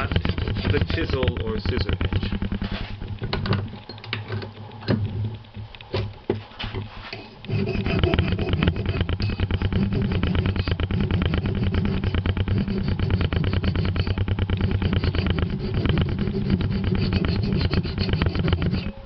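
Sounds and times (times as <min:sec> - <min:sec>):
motor running with rapid pulsing: 0:00.0 - 0:19.0.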